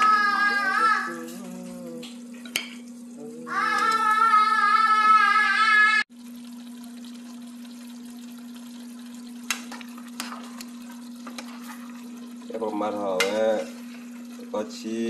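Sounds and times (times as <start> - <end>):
stew sizzling in a saucepan: 0.0 - 4.8, 6.1 - 15.0.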